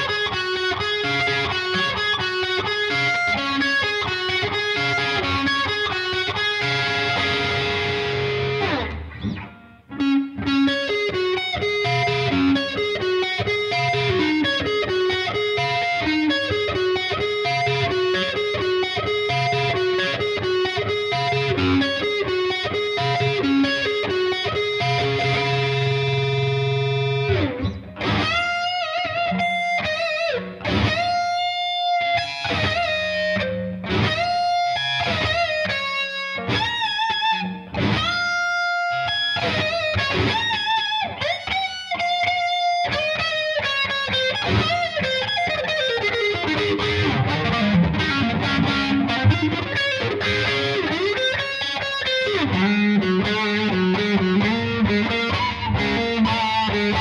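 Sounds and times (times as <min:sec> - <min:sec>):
electric guitar playing a lead: 0:00.0 - 0:57.0.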